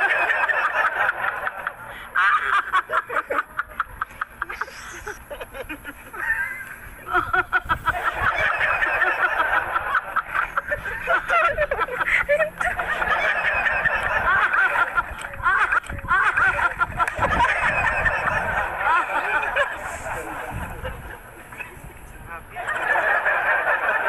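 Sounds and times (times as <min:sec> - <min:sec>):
people laughing: 0:00.0 - 0:24.0.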